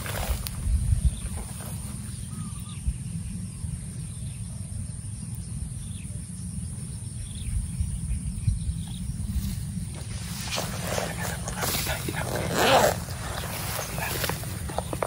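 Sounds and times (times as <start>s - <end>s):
faint distant bird calls: 0.0s - 15.0s
wind rumbling on microphone: 0.0s - 15.0s.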